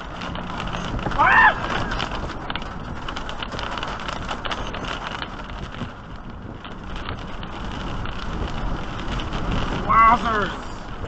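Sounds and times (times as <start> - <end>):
rain and hail falling: 0.0 - 11.0
wind gusting on microphone: 0.0 - 11.0.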